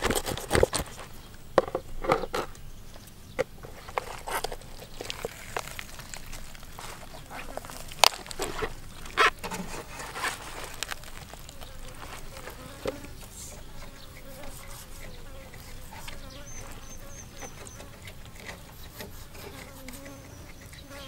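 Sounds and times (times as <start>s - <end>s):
insect buzzing: 0.0s - 21.0s.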